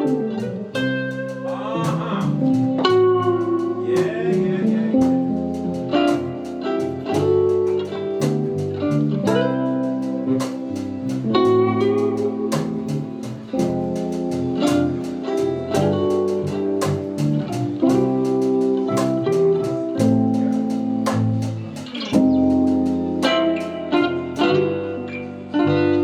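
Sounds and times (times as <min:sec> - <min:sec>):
guitar plucked notes and chords: 0:00.0 - 0:26.0.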